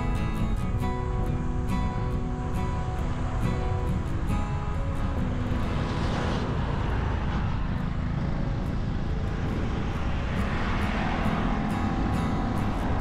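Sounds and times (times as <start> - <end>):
traffic noise: 0.0 - 13.0
wind on microphone: 0.0 - 13.0.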